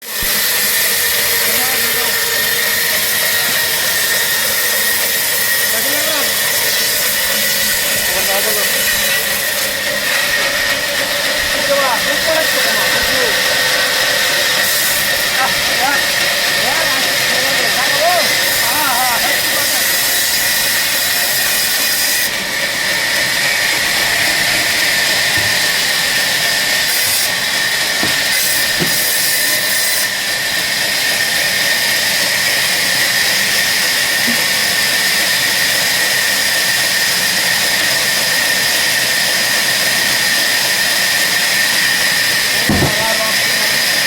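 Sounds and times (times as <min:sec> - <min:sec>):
power tool whining: 0:00.0 - 0:44.0.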